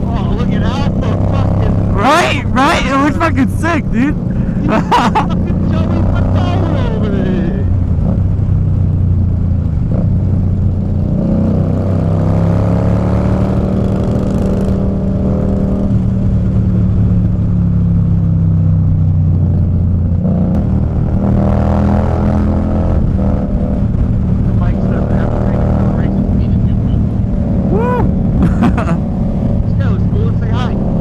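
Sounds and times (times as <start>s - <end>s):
motorcycle engine running: 0.0s - 21.9s, 22.6s - 31.0s.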